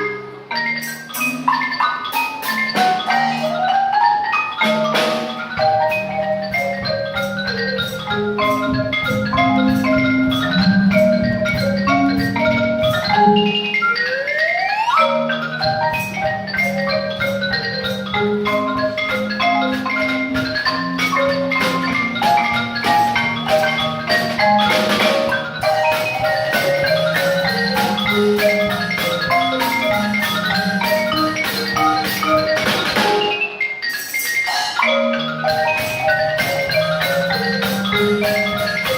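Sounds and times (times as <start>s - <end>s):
marimba and xylophone notes: 0.0s - 38.9s.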